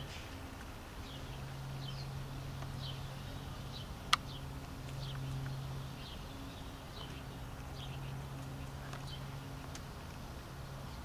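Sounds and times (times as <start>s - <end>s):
songbird chirping: 0.0s - 11.0s
steady low hum: 0.0s - 11.0s.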